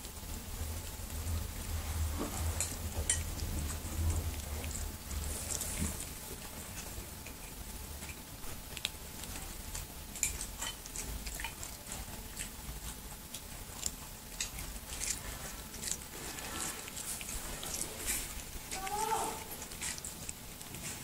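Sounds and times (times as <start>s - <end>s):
kitten chewing cucumber: 0.0s - 21.0s.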